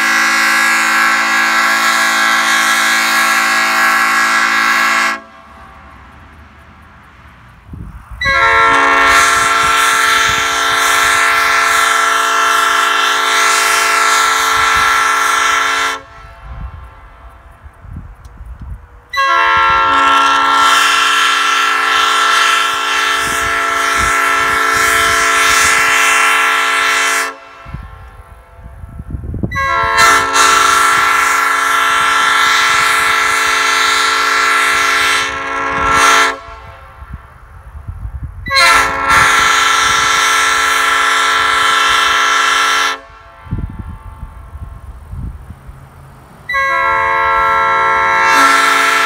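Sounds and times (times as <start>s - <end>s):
train horn chord blasts: 0.0s - 6.2s, 8.2s - 17.1s, 19.1s - 37.2s, 38.4s - 44.6s, 46.5s - 49.0s.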